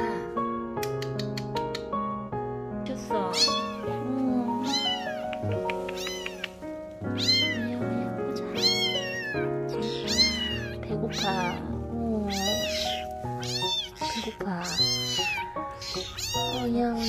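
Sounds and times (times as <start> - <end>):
background music: 0.0 - 17.0
kittens mewing: 3.3 - 17.0.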